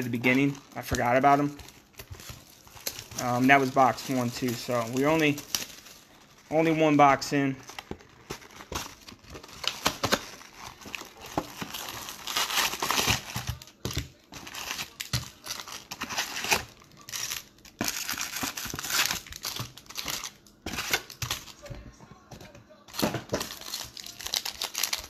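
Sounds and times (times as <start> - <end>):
foil packs crinkling: 0.0 - 21.8, 22.9 - 25.0.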